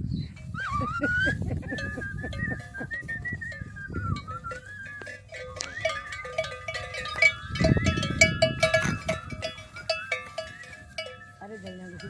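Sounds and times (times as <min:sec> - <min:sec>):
cattle bells clanking: 0:01.6 - 0:12.0.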